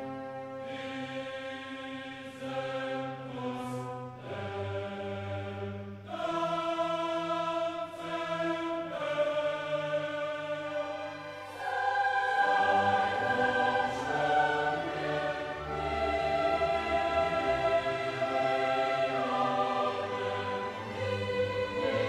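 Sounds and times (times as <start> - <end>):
choir singing slow chords: 0.0 - 22.0.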